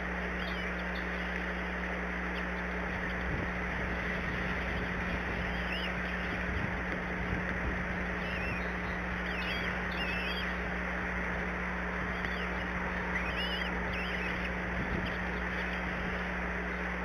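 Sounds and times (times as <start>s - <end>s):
high wavering bird calls: 0.0s - 17.0s
low constant hum: 0.0s - 17.0s.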